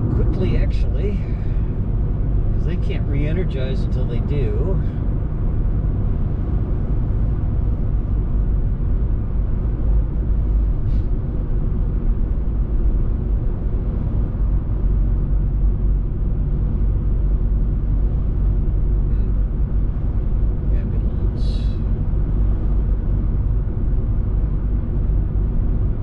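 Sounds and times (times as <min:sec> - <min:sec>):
car road noise from cabin: 0:00.0 - 0:26.0.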